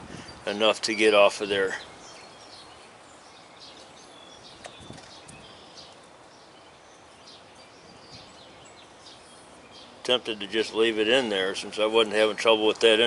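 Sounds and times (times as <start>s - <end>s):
bird chirps: 0.2s - 12.6s.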